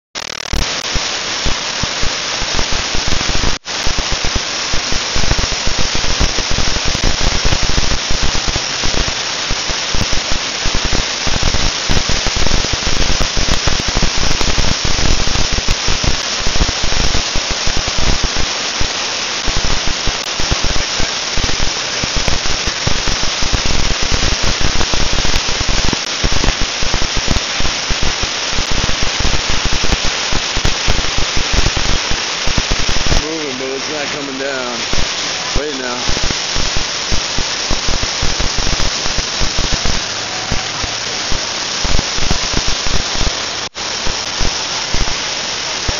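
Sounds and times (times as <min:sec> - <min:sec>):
white water rushing: 0:00.2 - 0:45.9.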